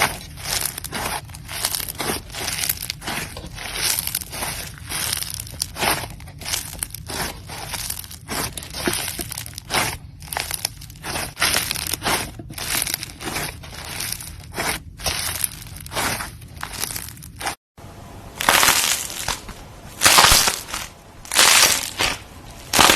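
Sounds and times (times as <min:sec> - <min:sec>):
crunchy slime crackling: 0:00.0 - 0:17.6, 0:18.3 - 0:22.9.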